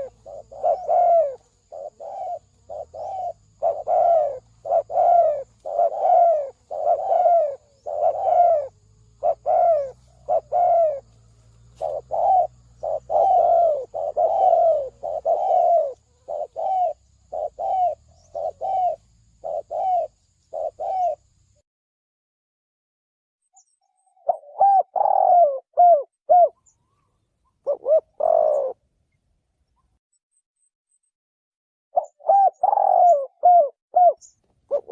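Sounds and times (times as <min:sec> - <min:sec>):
dove cooing: 0:00.0 - 0:21.3, 0:24.2 - 0:27.0, 0:27.6 - 0:28.8, 0:32.0 - 0:34.9.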